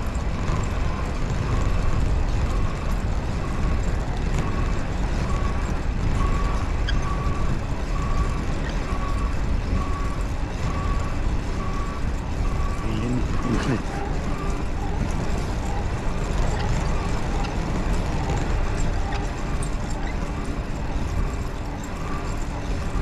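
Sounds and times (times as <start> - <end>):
wind and rolling noise: 0.0 - 23.0.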